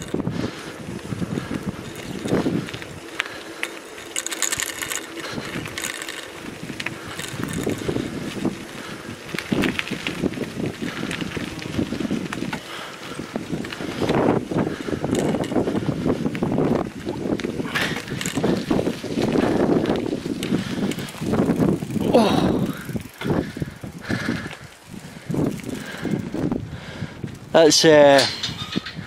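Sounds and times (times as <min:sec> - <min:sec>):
bicycle tyre noise: 0:00.0 - 0:29.0
bike rattling clicks: 0:00.0 - 0:29.0
wind gusting on microphone: 0:00.0 - 0:29.0.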